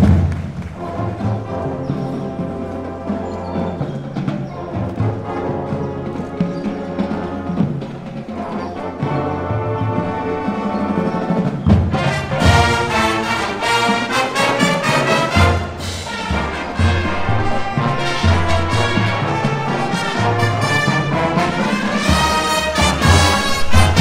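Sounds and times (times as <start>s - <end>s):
low brass bass notes: 0.0s - 24.0s
marching band playing: 0.0s - 24.0s
trumpets and trombones: 0.0s - 24.0s.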